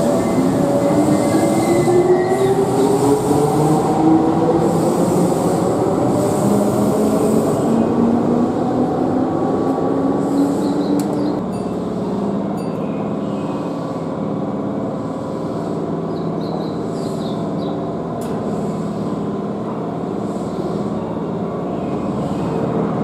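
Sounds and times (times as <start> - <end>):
electric train humming: 0.0 - 23.0.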